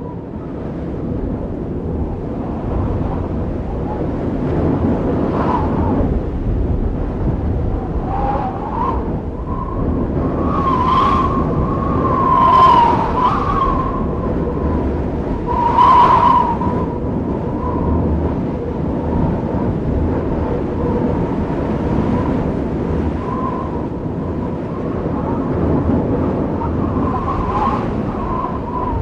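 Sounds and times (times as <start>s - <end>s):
wind rumble on microphone: 0.0s - 29.0s
wind whistling in gusts: 0.0s - 29.0s.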